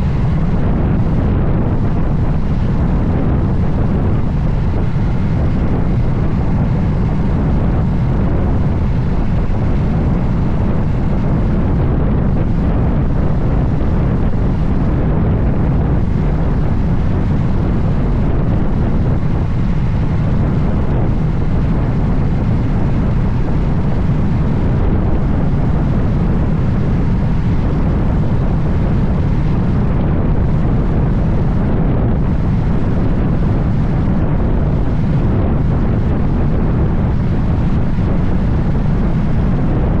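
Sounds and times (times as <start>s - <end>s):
road noise: 0.0s - 40.0s
wind buffeting microphone: 0.0s - 40.0s.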